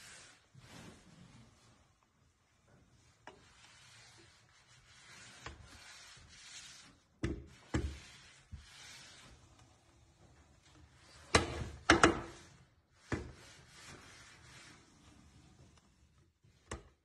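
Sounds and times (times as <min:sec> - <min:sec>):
rubbing and scraping: 0:02.5 - 0:16.6.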